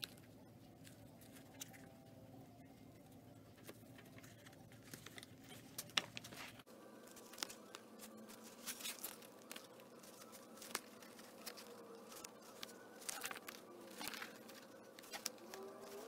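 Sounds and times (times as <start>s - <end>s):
low background hum: 0.0s - 16.0s
rustling and scratching of hands: 3.1s - 16.0s.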